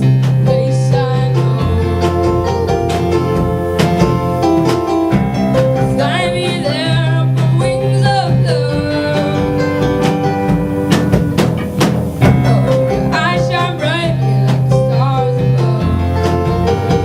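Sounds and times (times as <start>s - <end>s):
acoustic country band playing: 0.0s - 17.0s.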